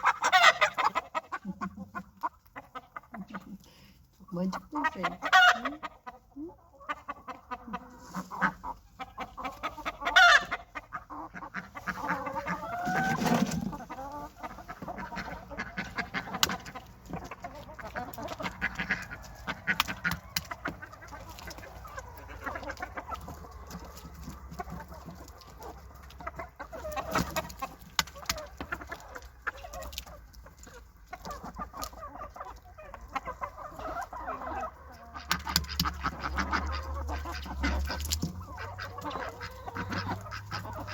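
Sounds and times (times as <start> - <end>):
chickens clucking: 0.0 - 40.9
chicks cheeping: 6.0 - 40.9.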